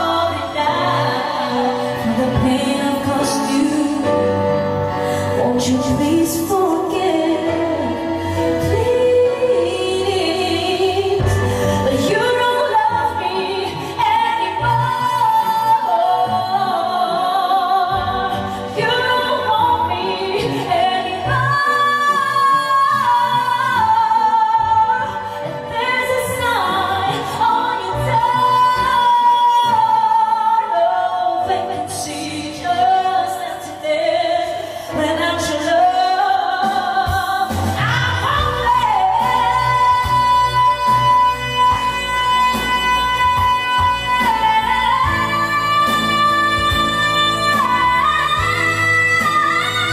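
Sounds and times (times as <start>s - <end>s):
backing track: 0.0s - 49.9s
woman singing a ballad: 0.0s - 49.9s.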